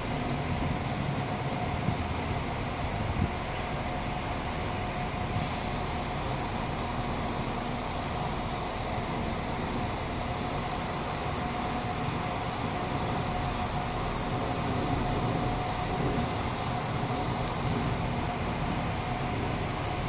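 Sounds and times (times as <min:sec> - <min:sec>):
diesel train running slowly: 0:00.0 - 0:20.0.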